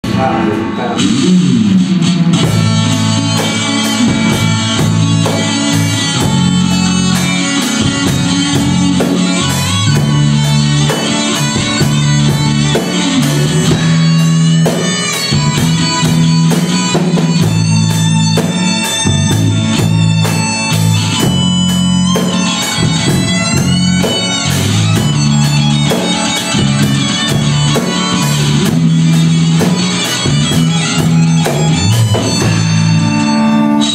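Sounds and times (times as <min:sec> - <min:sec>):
bass guitar: 0:00.0 - 0:33.9
drums: 0:00.0 - 0:33.9
electric guitar solo: 0:00.0 - 0:33.9.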